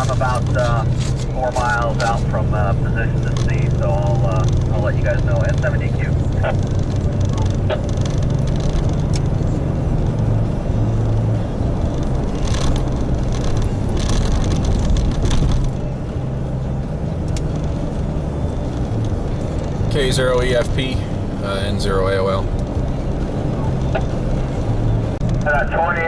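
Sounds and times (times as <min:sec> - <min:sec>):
engine and road drone: 0:00.0 - 0:26.0.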